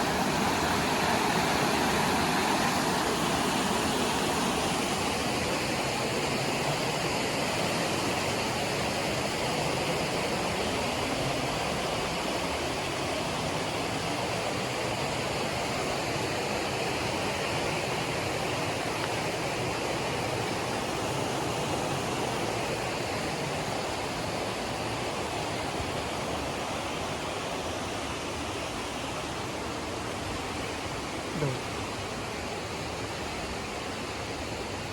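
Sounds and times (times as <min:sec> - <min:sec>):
fast-flowing water rushing: 0:00.0 - 0:34.9.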